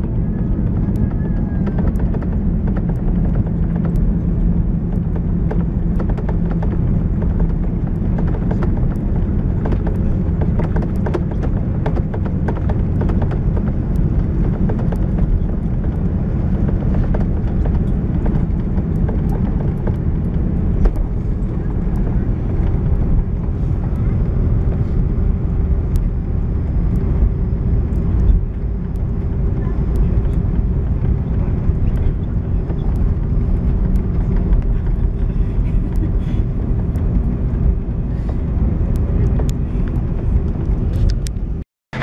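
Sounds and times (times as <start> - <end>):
airplane cabin engine rumble: 0.0 - 42.0.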